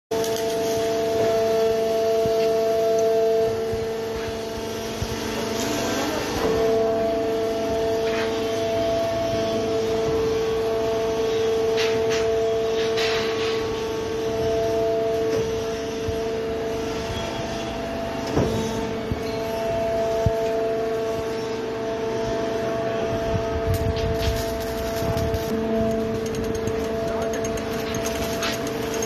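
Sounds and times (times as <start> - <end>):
hydraulic power unit humming: 0.1 - 29.0.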